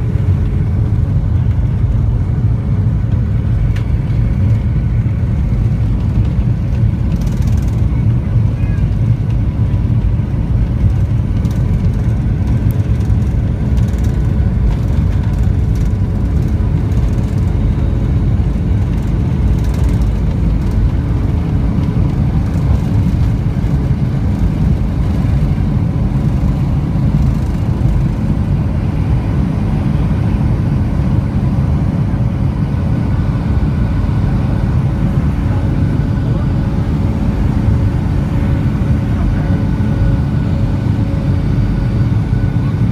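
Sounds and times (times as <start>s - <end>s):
jet engines at takeoff power: 0.0s - 42.9s.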